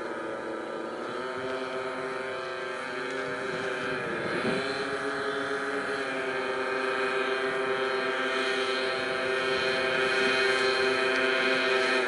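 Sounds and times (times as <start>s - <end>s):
model airplane engines droning: 0.0s - 12.0s.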